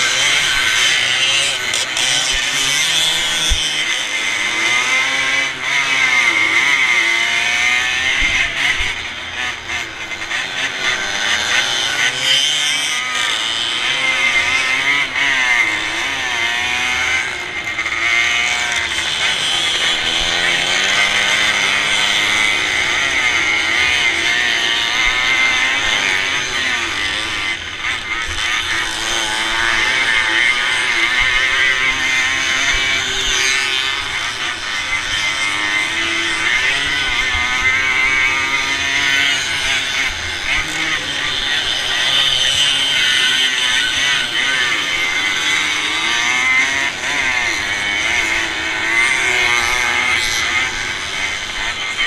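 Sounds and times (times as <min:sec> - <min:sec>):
motorcycle engine revving: 0:00.0 - 0:52.0
other race bikes running: 0:00.0 - 0:52.0.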